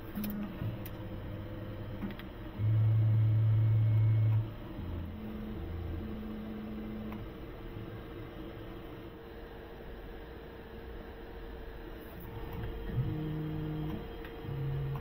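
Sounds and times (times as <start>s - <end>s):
mill drive motors humming: 0.0s - 15.0s.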